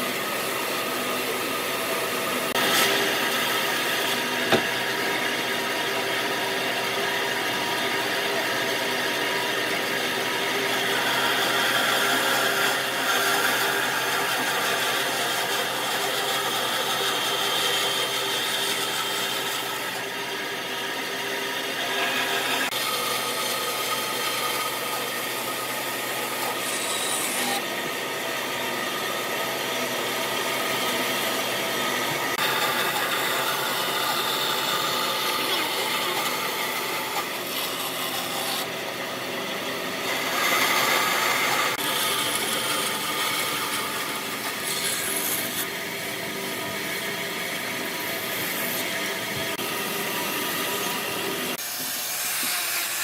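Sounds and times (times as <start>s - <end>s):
tools rubbing and sawing wood: 0.0s - 39.0s, 39.9s - 53.0s.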